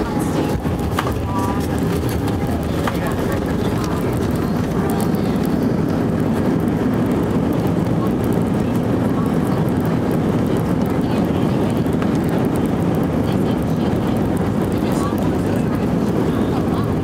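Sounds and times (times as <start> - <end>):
jet cabin rumble: 0.0 - 17.0.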